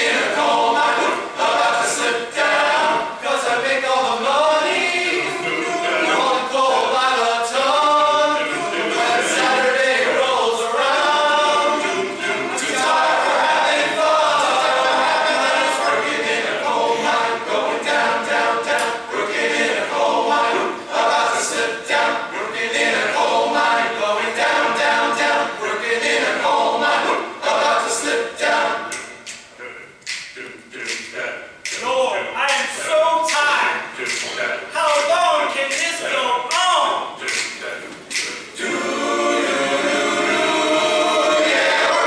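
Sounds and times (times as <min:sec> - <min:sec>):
men's chorus singing: 0:00.0 - 0:29.1, 0:32.6 - 0:42.0.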